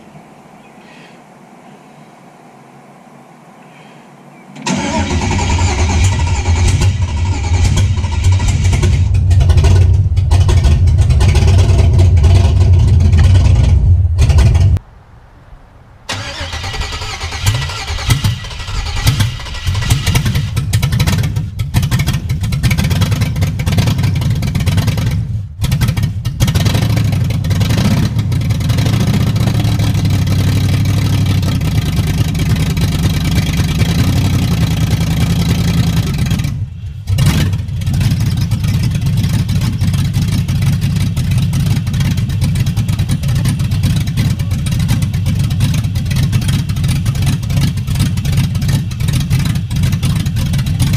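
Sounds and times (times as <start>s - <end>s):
car engine running roughly: 4.7s - 14.8s, 16.1s - 50.9s.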